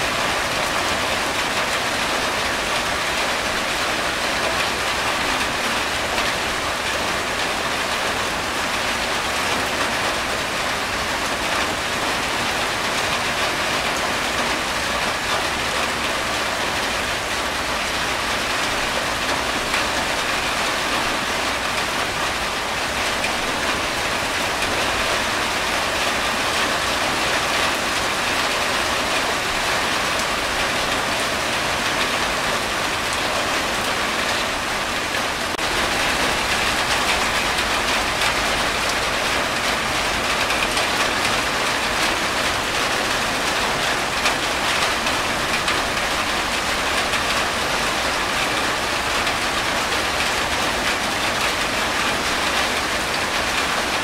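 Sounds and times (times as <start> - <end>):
rain drumming on a tin roof: 0.0 - 54.0
water running off roof edge: 0.0 - 54.0.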